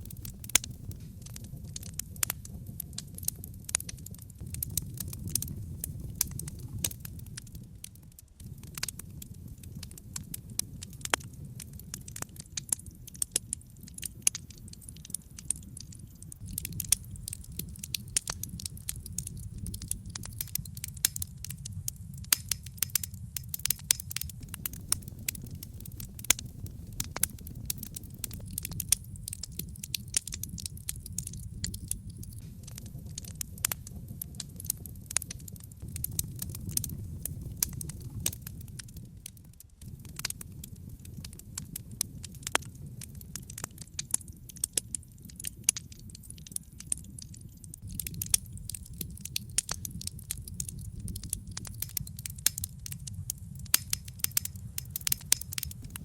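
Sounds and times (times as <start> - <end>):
wood popping: 0.0 - 11.3, 11.9 - 40.6, 47.8 - 56.0
fire crackling: 0.0 - 56.0
low rumble of flame: 0.0 - 56.0.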